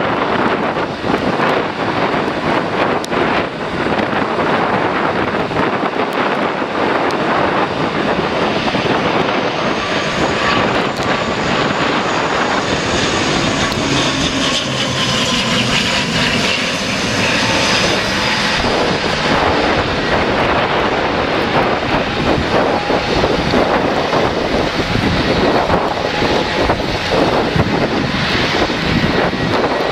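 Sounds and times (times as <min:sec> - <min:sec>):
jet engines whining overhead: 0:00.0 - 0:29.9
wind buffeting microphone: 0:00.0 - 0:29.9.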